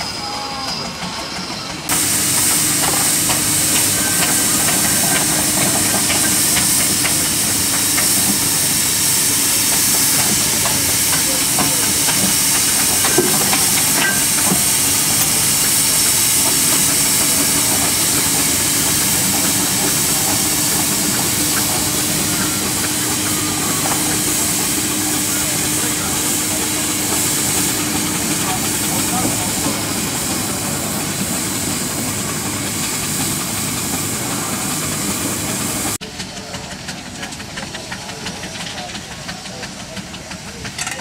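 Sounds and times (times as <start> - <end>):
steam hissing: 0.0 - 41.0.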